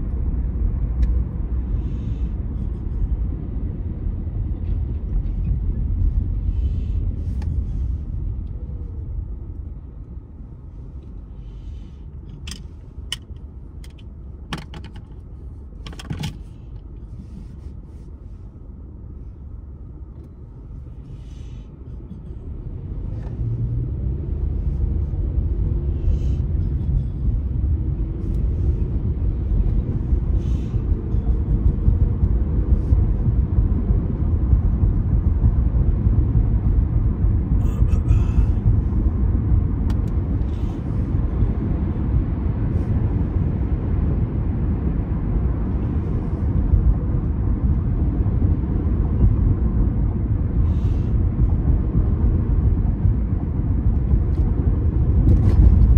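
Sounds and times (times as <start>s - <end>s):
road and engine rumble: 0.0s - 55.9s.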